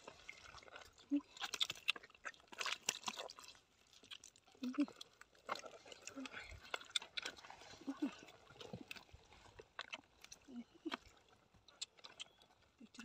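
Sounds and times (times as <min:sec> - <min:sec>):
soil crumbling and trickling: 0:00.0 - 0:13.0.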